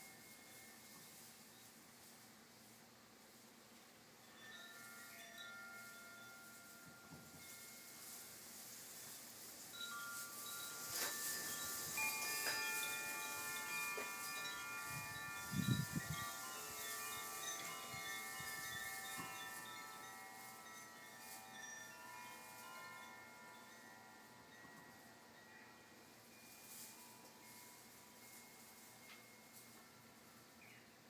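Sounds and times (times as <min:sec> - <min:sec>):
wind chimes ringing: 0:00.0 - 0:01.5, 0:04.2 - 0:31.0.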